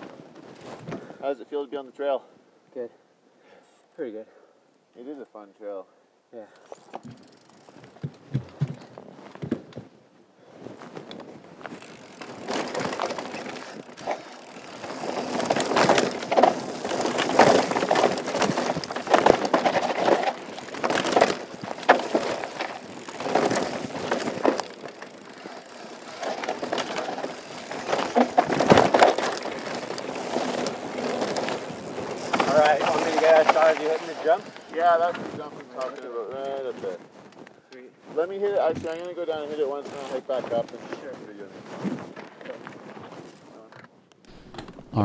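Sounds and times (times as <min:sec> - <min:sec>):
bike rattling over bumps: 0:00.0 - 0:01.2, 0:06.8 - 0:45.0
bike tyres crunching over dirt: 0:00.0 - 0:01.4, 0:06.7 - 0:45.0.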